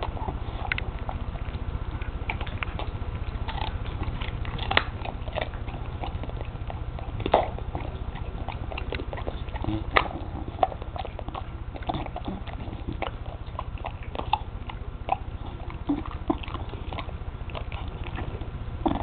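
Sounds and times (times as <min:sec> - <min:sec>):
dog crunching a carrot: 0:00.0 - 0:19.0
low rumble: 0:00.0 - 0:19.0
wet chewing: 0:00.0 - 0:19.0.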